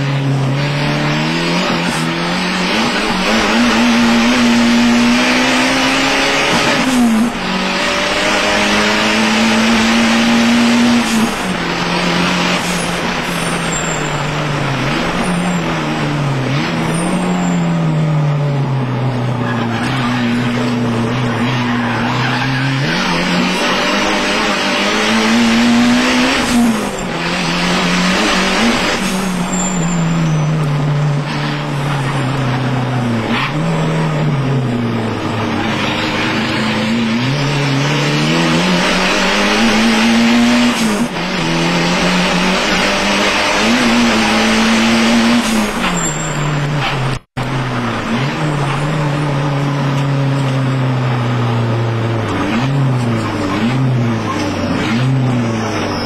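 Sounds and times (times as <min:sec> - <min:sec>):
race car engine revving: 0:00.0 - 0:56.0
road and wind noise: 0:00.0 - 0:56.0.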